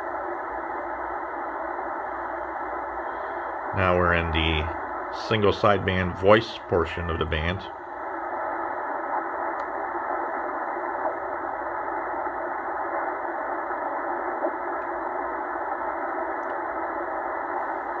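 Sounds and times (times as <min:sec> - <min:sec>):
shortwave radio band noise hiss: 0:00.0 - 0:18.0.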